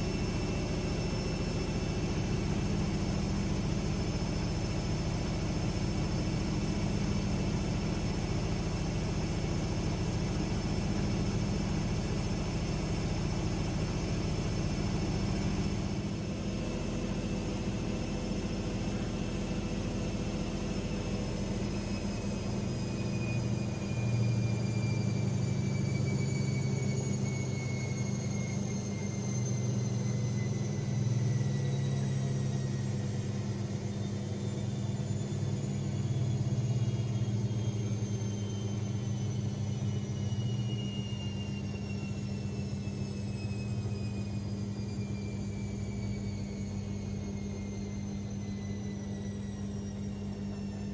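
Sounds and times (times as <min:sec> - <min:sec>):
faint high whine: 0:00.0 - 0:50.9
washing machine running: 0:00.0 - 0:50.9.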